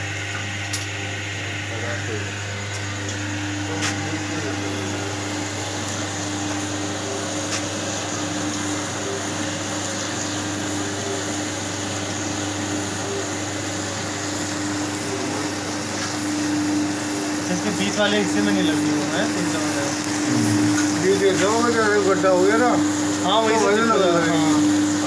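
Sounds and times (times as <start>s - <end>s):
steam machine hissing and humming: 0.0s - 25.0s.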